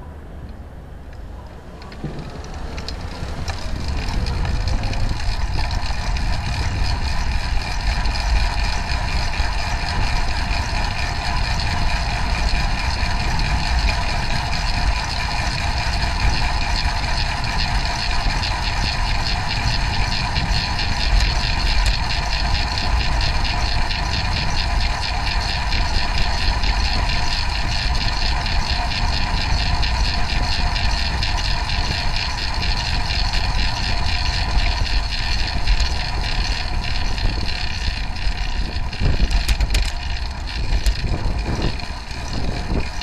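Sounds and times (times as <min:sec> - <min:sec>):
steady hum: 0:00.0 - 0:43.0
wind and road noise rumble: 0:00.0 - 0:43.0.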